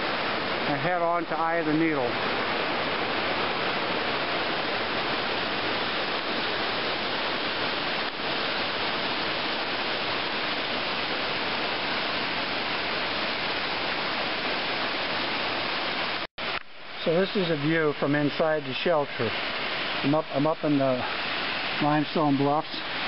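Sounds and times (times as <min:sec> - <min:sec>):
water rushing over waterfalls: 0:00.0 - 0:23.0.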